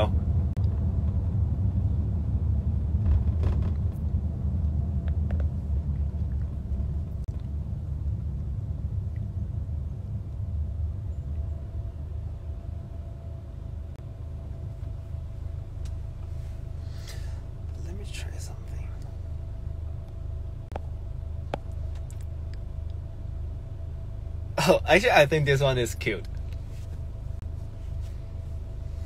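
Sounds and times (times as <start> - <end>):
car cabin rumble: 0.0 - 29.0.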